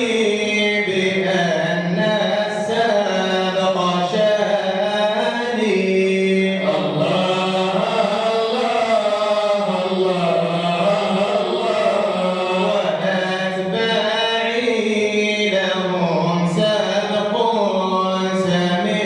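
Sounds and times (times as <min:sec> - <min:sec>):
person chanting unaccompanied: 0:00.0 - 0:19.0.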